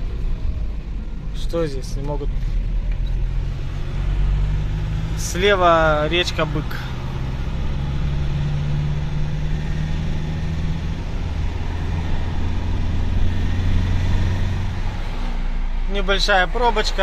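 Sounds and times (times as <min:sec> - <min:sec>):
van engine and tyre drone: 0:00.0 - 0:17.0.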